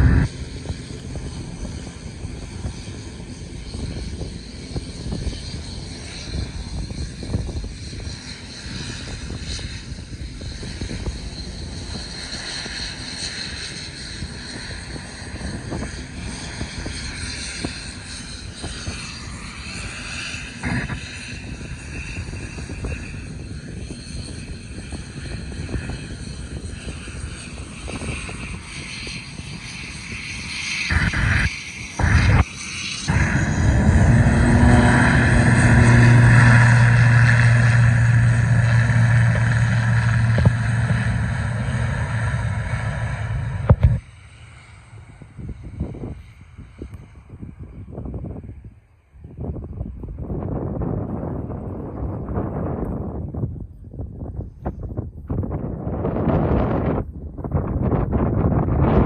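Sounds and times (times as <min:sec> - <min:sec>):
propeller drone and turbine whine: 0:00.0 - 0:59.0
turboprop engines running: 0:00.0 - 0:59.0.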